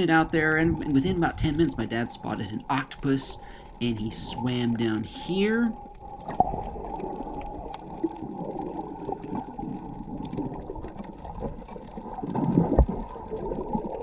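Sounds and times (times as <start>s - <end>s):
muffled underwater gurgling: 0.0s - 14.0s.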